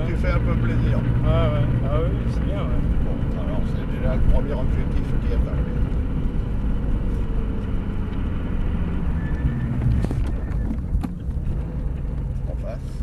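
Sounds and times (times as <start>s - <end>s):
car engine at low revs: 0.0s - 13.0s
road noise rumble: 0.0s - 13.0s.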